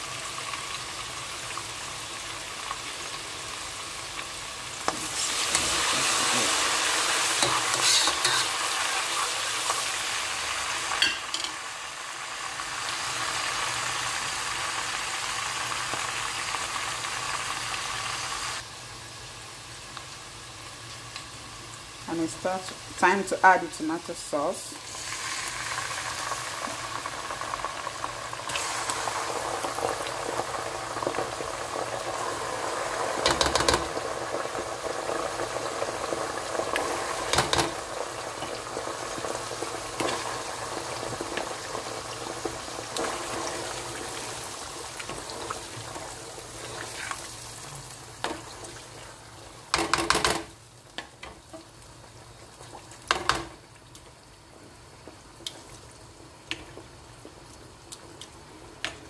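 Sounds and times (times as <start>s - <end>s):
oil and onions sizzling: 0.0s - 59.0s.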